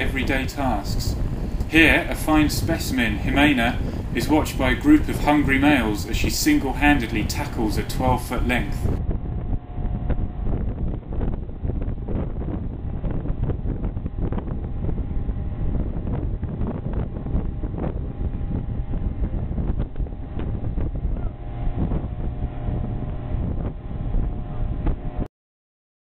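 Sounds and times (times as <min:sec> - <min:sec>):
wind buffeting microphone: 0:00.0 - 0:25.3.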